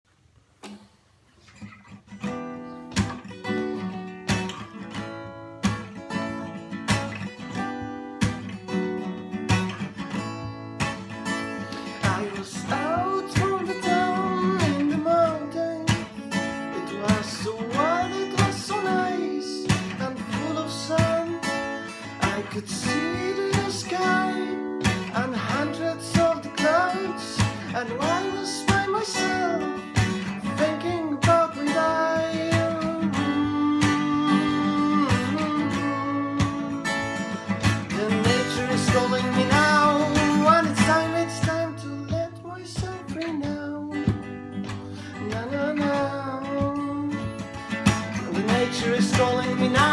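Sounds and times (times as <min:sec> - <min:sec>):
strummed acoustic guitar: 0:00.6 - 0:49.9
wordless sung melody: 0:02.3 - 0:49.9.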